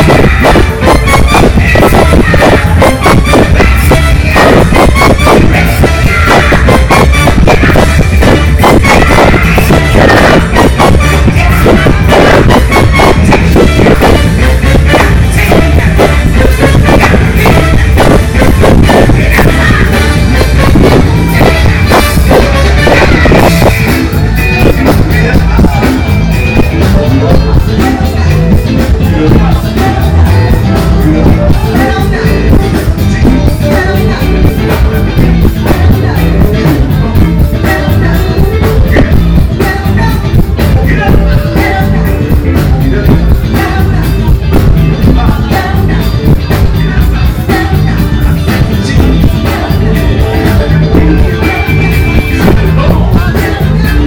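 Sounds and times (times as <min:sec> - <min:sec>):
live funk band playing: 0:00.0 - 0:54.0
person singing: 0:00.0 - 0:54.0.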